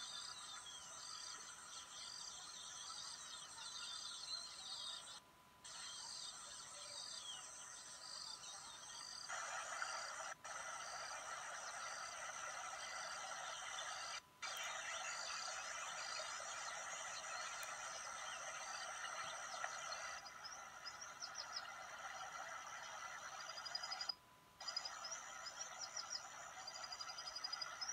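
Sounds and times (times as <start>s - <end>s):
chorus of small animal calls: 0.0s - 27.9s.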